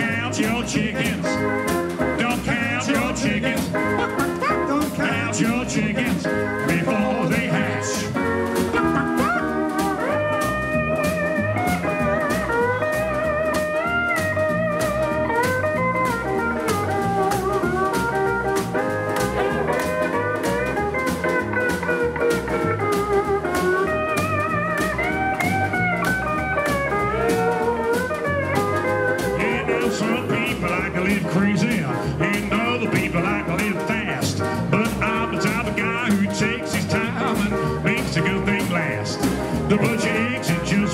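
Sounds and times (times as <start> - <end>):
keyboard: 0.0 - 40.9
pedal steel guitar: 0.0 - 40.9
steady drum beat: 0.0 - 40.9.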